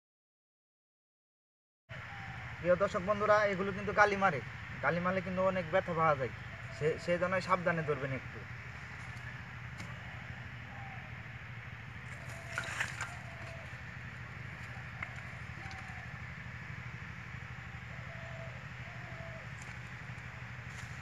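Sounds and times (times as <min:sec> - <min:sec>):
steady low hum: 0:01.9 - 0:21.0.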